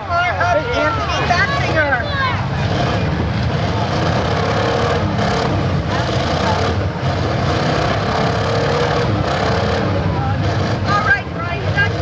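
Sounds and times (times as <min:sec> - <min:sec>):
several car engines running: 0:00.0 - 0:12.0.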